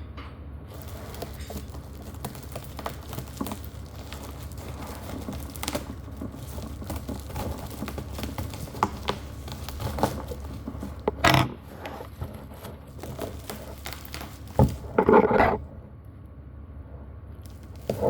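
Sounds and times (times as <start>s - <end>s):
packaging clicks taps and rustles: 0.7s - 15.4s.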